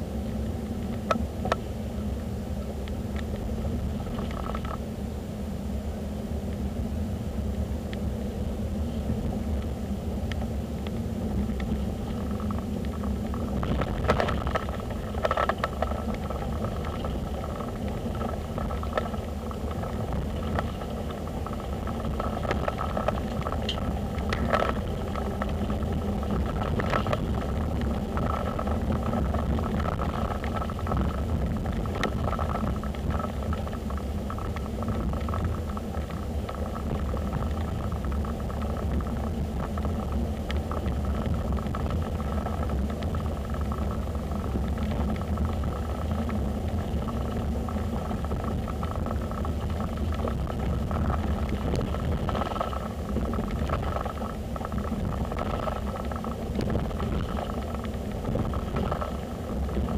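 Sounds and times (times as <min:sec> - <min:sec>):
car engine and road rumble: 0:07.2 - 0:59.9
light clicks and rattles: 0:10.3 - 0:59.9.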